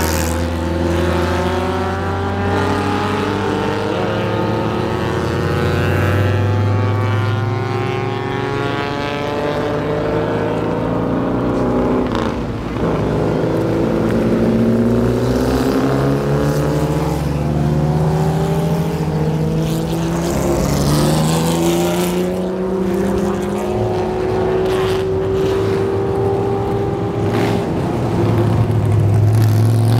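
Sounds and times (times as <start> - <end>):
race car engines passing: 0.0 - 29.9.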